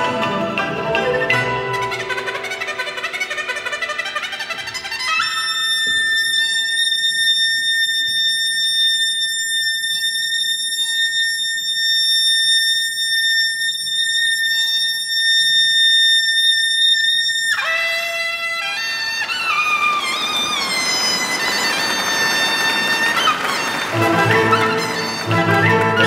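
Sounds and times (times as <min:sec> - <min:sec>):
shawm playing piercing high notes: 0:00.0 - 0:26.0.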